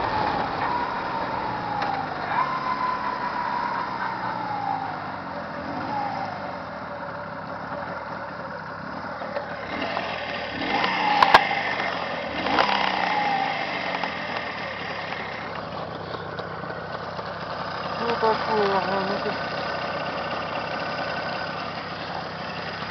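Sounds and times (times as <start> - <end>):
engine revving: 0.0 - 8.2, 8.8 - 22.9
engine idling: 0.0 - 22.9.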